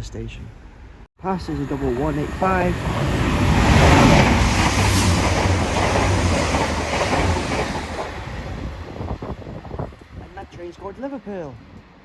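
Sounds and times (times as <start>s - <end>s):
train rushing past: 1.2s - 12.0s.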